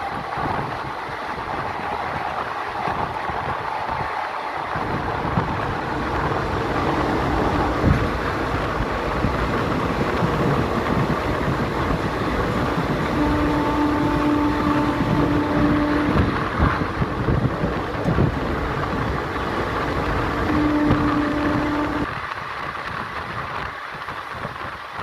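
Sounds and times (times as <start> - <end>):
train rumble and rattle: 0.0 - 25.0.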